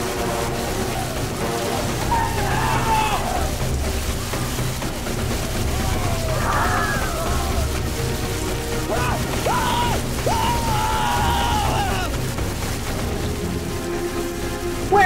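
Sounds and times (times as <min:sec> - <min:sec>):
dramatic music: 0:00.0 - 0:15.0
pouring rain: 0:00.0 - 0:15.0
rumble of wind and waves: 0:00.0 - 0:15.0.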